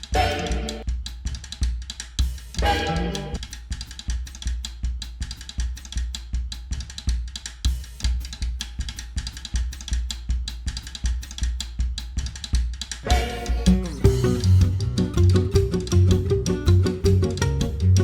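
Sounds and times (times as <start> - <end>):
drum kit playing a beat: 0.0 - 18.0.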